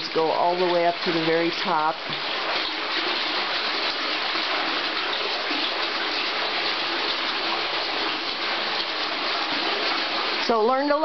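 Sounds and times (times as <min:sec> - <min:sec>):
water splashing into fish tank: 0:00.0 - 0:11.0.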